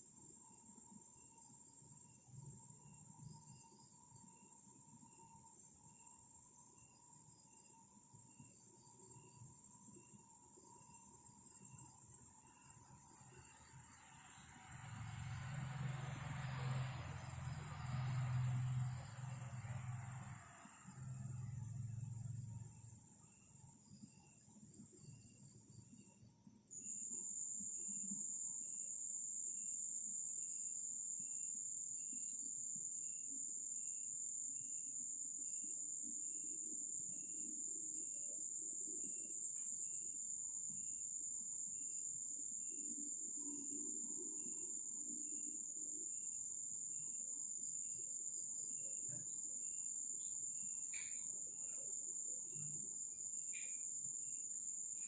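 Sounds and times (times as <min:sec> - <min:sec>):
faint insect chirp: 0:00.0 - 0:55.0
high-pitched insect trill: 0:00.0 - 0:55.0.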